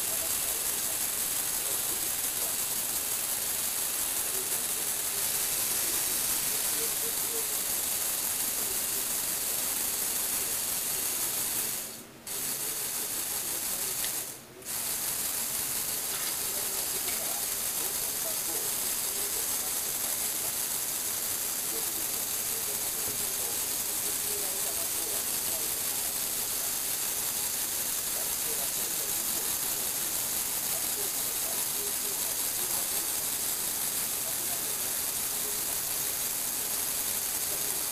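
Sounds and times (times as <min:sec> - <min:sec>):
toy electric motor and gears: 0:00.0 - 0:37.9.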